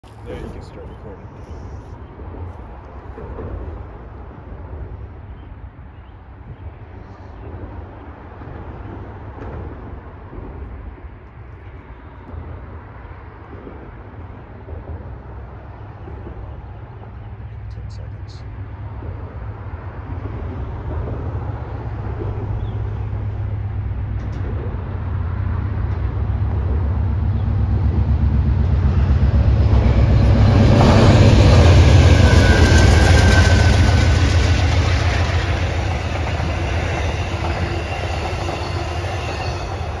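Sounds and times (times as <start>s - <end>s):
passenger train passing: 0.0s - 40.0s.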